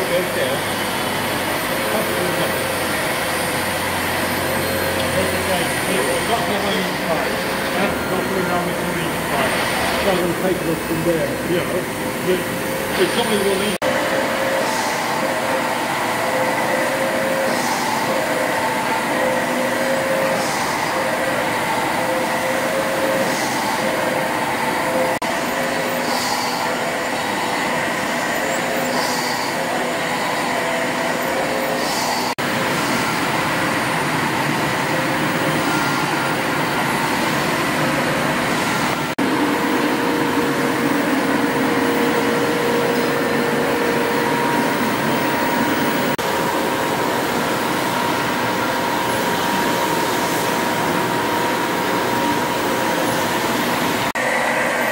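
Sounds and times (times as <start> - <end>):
steam engines clattering: 0.0 - 54.3.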